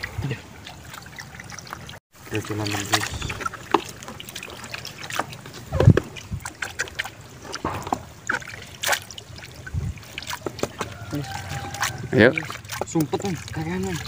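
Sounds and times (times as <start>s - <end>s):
water splashing and dribbling: 0.0s - 14.0s.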